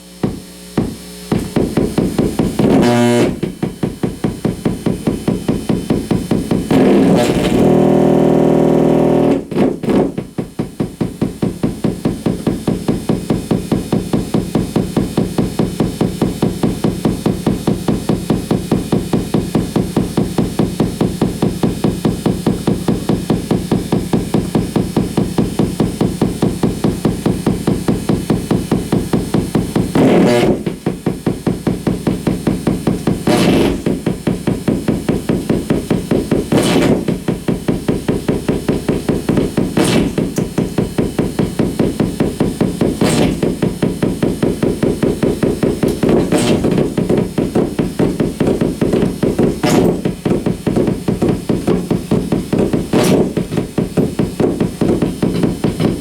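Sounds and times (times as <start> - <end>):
pulsing electrical noise: 0.0 - 10.3, 12.0 - 54.7
piercing electrical bursts: 0.0 - 13.0, 21.2 - 56.0
steady electrical hum: 0.0 - 56.0.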